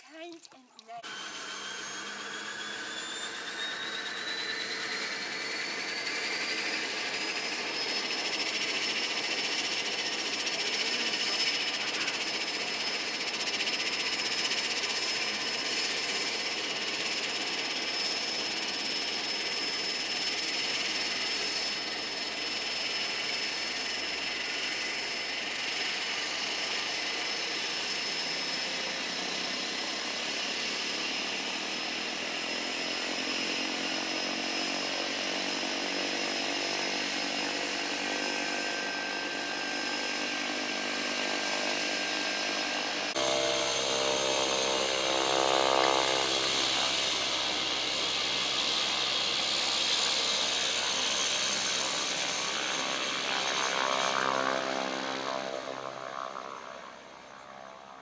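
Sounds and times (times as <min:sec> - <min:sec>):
aircraft engine and propeller noise: 0:00.0 - 0:58.0
turbine whine: 0:01.0 - 0:58.0.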